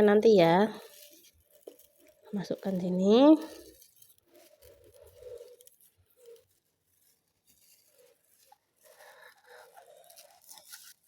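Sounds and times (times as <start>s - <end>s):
faint rustles and soft taps: 0.0s - 11.0s.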